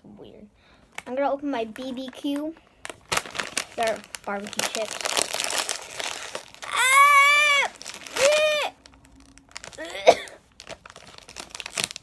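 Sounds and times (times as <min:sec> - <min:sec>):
chip bag crinkling: 0:00.8 - 0:12.0.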